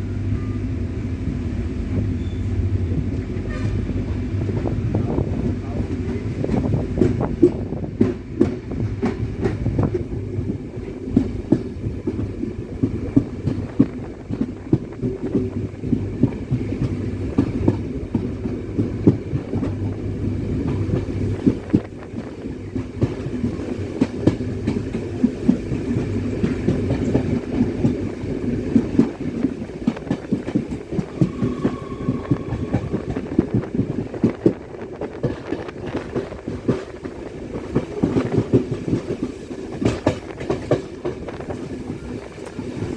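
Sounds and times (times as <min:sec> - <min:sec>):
train rumbling on track: 0:00.0 - 0:42.9.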